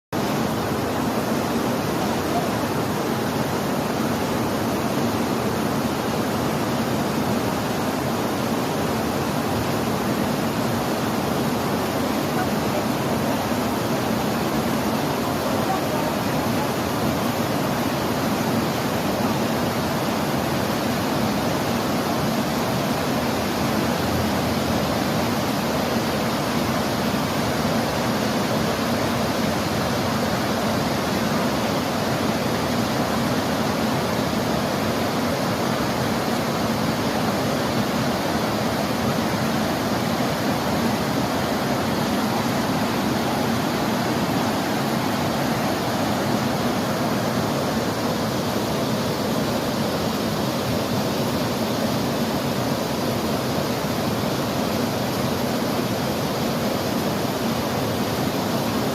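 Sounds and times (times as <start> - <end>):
fast-flowing river rushing: 0.2 - 58.9.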